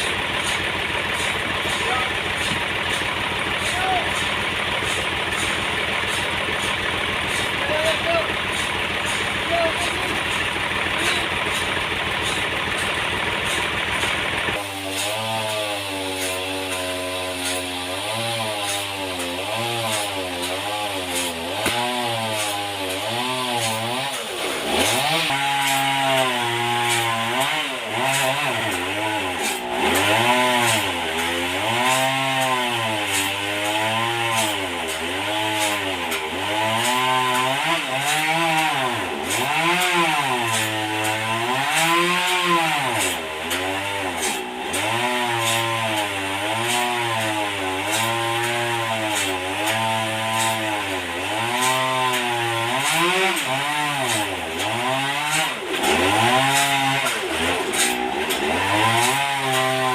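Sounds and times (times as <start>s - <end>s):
saw rasping through wood: 0.0s - 59.9s
sawmill engine labouring: 0.0s - 59.9s.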